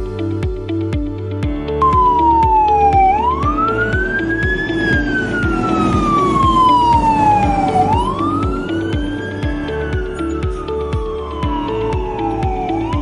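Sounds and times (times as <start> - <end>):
background music with a beat: 0.0 - 13.0
siren wailing: 1.8 - 13.0.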